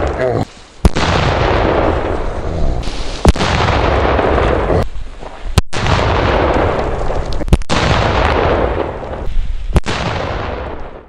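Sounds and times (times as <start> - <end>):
firecracker bangs: 0.8 - 2.2, 2.8 - 11.0.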